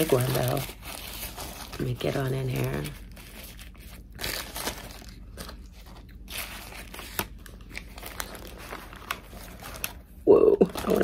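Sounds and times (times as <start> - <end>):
paper wrapper crinkling: 0.0 - 11.0.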